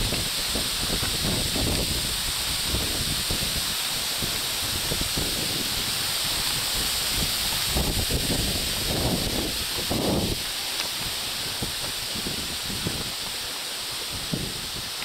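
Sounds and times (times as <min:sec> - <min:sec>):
leaves rustling: 0:00.0 - 0:15.0
wind buffeting microphone: 0:00.0 - 0:15.0.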